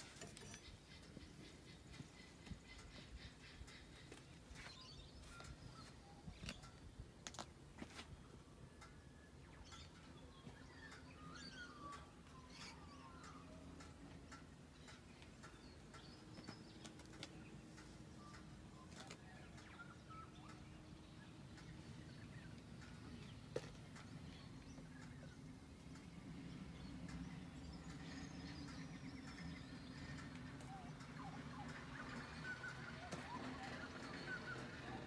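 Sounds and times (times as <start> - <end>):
faint birds chirping: 0.0 - 35.0.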